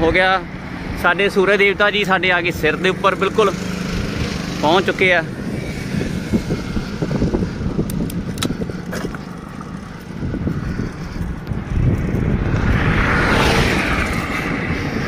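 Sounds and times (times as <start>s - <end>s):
vehicle passing: 0.0s - 15.0s
wind buffeting microphone: 0.0s - 15.0s.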